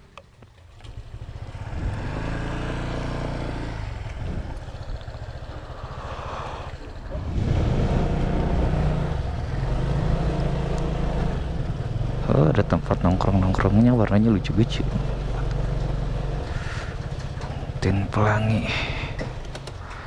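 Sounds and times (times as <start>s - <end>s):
motorcycle engine running: 0.1s - 20.0s.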